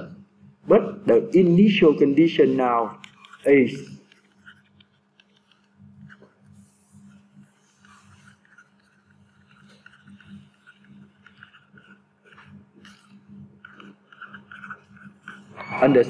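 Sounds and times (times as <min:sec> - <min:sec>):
low electrical hum: 0:00.0 - 0:16.0
stylus scratching on tablet screen: 0:01.1 - 0:16.0.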